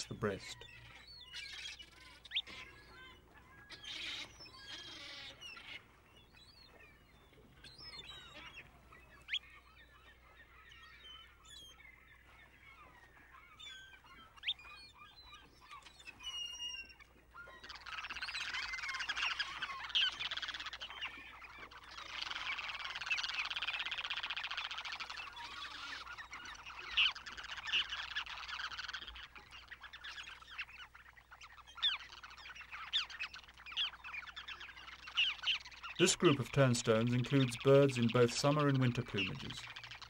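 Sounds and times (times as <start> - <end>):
chorus of birds calling: 0.0 - 40.0
shorebirds chirping and whistling: 0.0 - 40.0.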